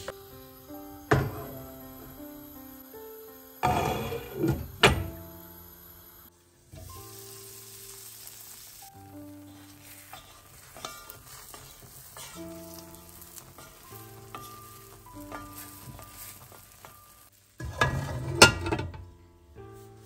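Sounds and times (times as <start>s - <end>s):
food sizzling in hot pan: 0.0s - 20.0s
soft background music: 0.0s - 20.0s.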